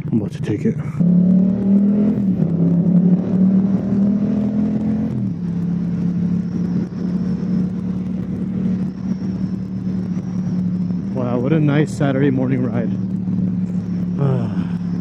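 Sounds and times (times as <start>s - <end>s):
motorcycle engine accelerating: 0.0s - 15.0s
wind noise: 1.0s - 15.0s.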